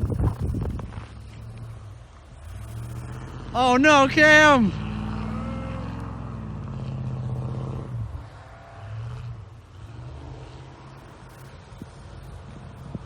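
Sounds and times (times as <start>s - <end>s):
truck engine running and revving: 0.0s - 13.0s.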